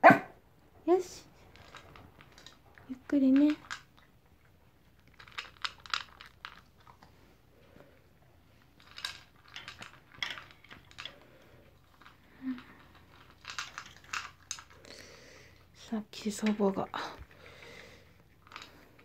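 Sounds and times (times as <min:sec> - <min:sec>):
dog crunching food: 0:01.4 - 0:15.7, 0:16.3 - 0:19.0.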